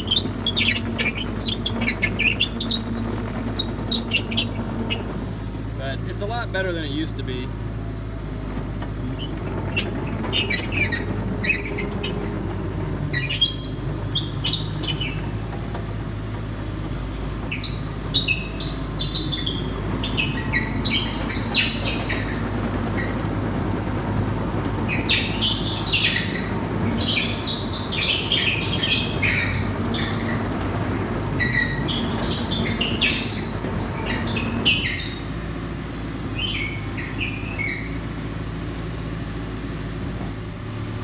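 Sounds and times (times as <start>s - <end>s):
high squeaks from rubber tracks: 0.0s - 6.5s, 8.3s - 35.5s, 36.1s - 38.4s
excavator engine running: 0.0s - 41.0s.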